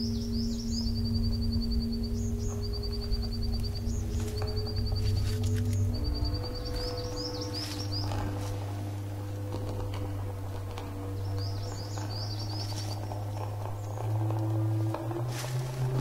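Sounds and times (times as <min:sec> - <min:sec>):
songbird twittering: 0:00.0 - 0:16.0
steady low hum: 0:00.0 - 0:16.0.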